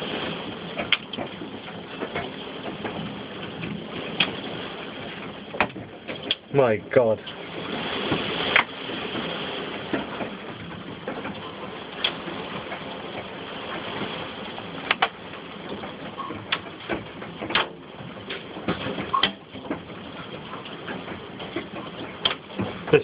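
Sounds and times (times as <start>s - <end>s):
hail falling: 0.0s - 23.0s
hailstones cracking on house: 0.0s - 23.0s.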